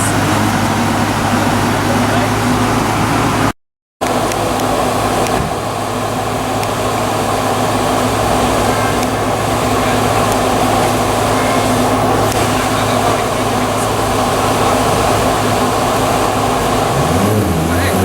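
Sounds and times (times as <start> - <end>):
car exhaust note: 0.0 - 18.0
road and wind noise: 0.0 - 18.0.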